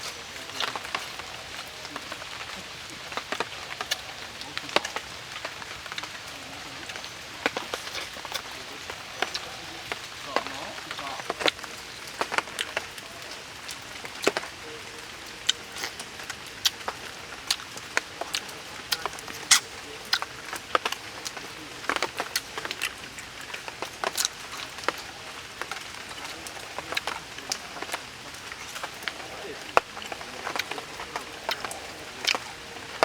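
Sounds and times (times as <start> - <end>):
wet chewing mouth clicks: 0.0 - 14.7, 15.4 - 33.0
steady background hiss: 0.0 - 33.0.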